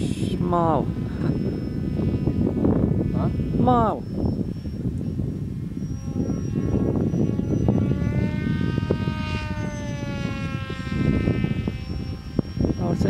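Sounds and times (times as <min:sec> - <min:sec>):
model plane motor whining: 0:00.0 - 0:13.0
wind rumble on microphone: 0:00.0 - 0:13.0.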